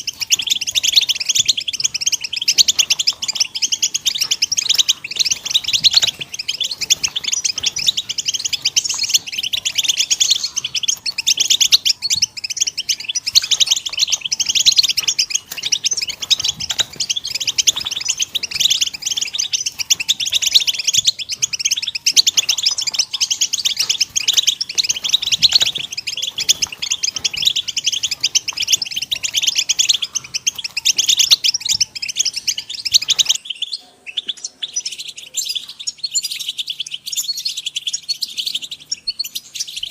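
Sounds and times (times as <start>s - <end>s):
finches twittering chatter: 0.0s - 39.9s
thin bird chirping: 0.0s - 39.9s.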